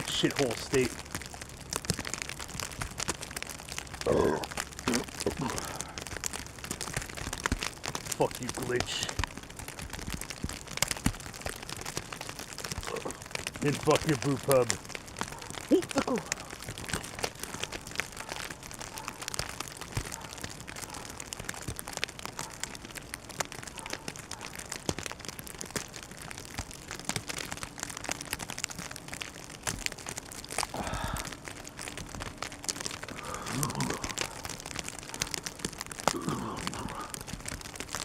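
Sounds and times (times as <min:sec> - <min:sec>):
crinkling rustle: 0:00.0 - 0:38.0.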